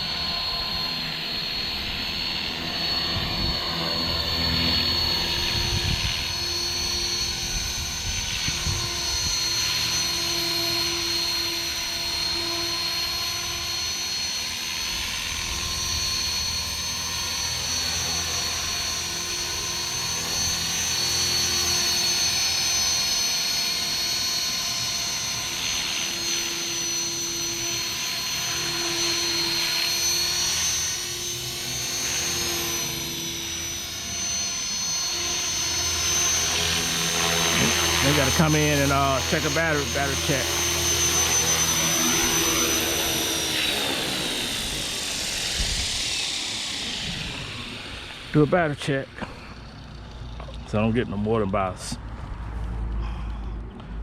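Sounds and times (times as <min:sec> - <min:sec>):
rotor blades buzzing: 0:00.0 - 0:53.0
rc helicopter motor whine: 0:00.0 - 0:54.0.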